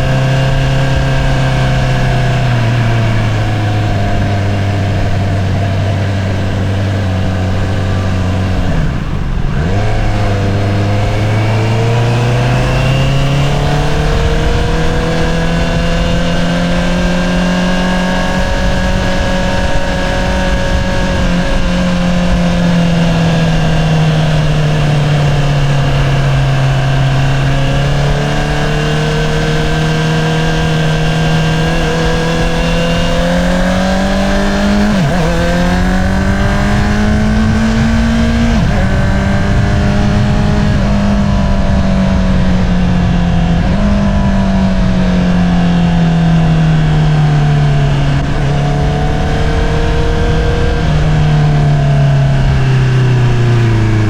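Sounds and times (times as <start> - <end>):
motorcycle engine at road speed: 0.0 - 54.0.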